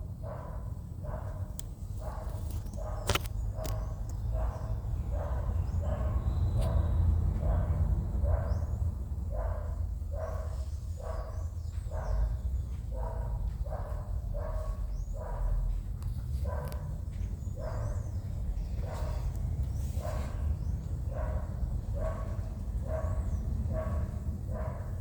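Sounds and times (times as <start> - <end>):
dog barking: 0.2 - 15.8, 16.4 - 19.4, 20.0 - 25.0.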